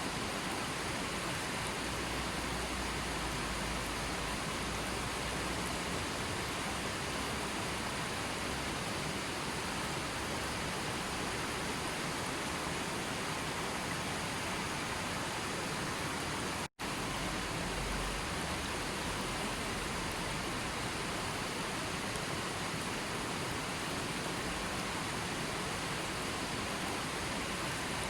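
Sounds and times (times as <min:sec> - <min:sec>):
rushing of falling water: 0:00.0 - 0:28.0.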